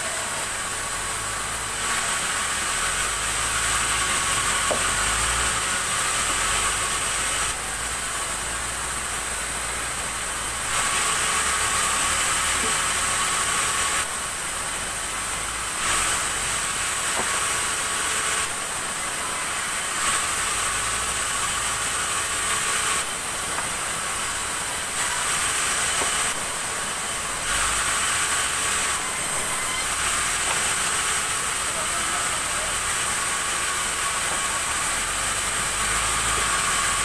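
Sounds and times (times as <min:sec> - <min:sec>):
band saw cutting wood: 0:00.0 - 0:37.0.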